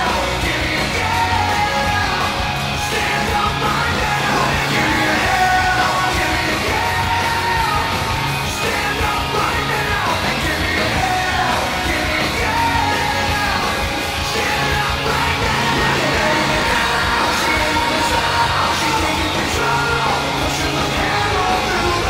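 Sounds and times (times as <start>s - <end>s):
rock song with shouted singing: 0.0s - 22.0s.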